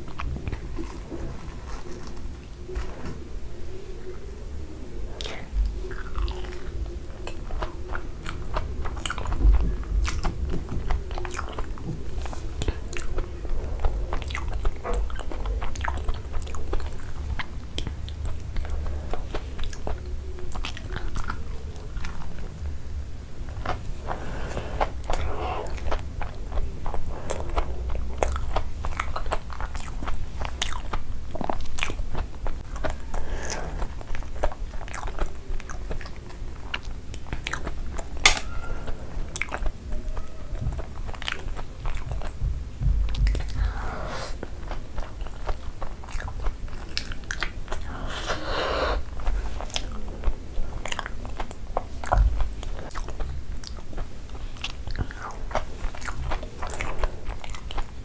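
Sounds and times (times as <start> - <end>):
chewing with wet mouth clicks: 5.2 - 22.6, 23.5 - 42.5, 43.1 - 43.7, 44.4 - 48.0, 49.0 - 58.0.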